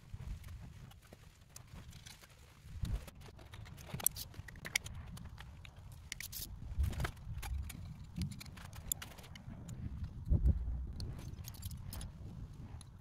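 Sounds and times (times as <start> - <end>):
metallic clicks and rattles: 1.8 - 13.0.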